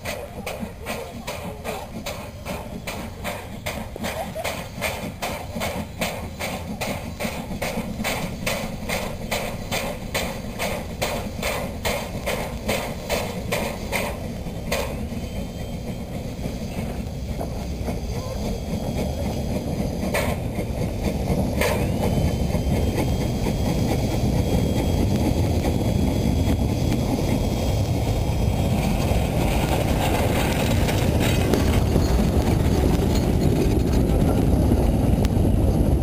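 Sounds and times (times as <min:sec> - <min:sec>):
steam locomotive exhaust chuffs: 0:00.0 - 0:36.0
train low rumble: 0:00.0 - 0:36.0.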